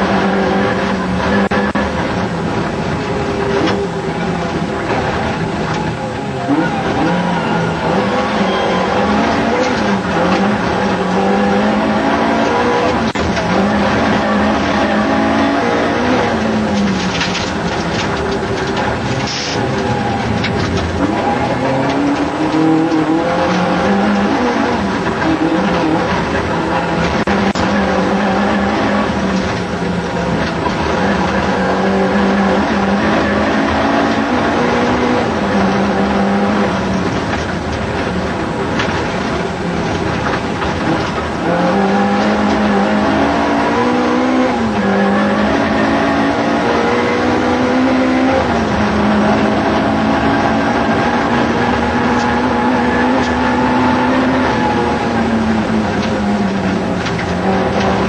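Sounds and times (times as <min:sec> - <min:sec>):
car engine revving hard: 0:00.0 - 0:58.0
road noise: 0:00.0 - 0:58.0.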